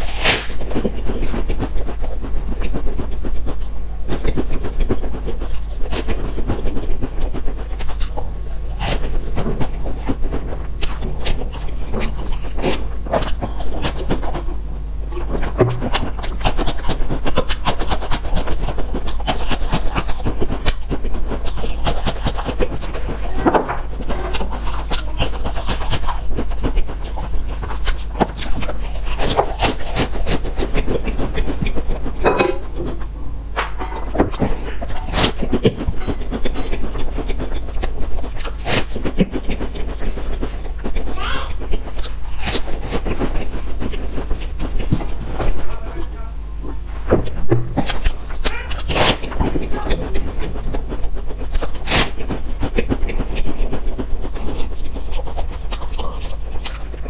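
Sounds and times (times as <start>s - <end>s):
breathing and mouth sounds: 0.0s - 57.0s
chewing and crunching snacks: 0.0s - 57.0s
steady low hum: 0.0s - 57.0s.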